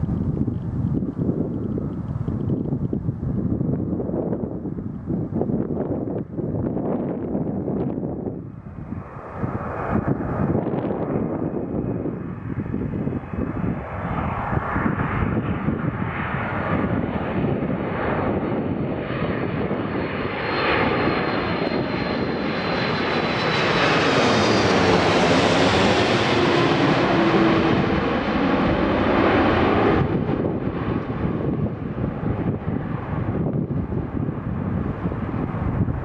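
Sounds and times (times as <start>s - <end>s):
airliner jet engine passing: 0.0s - 36.0s.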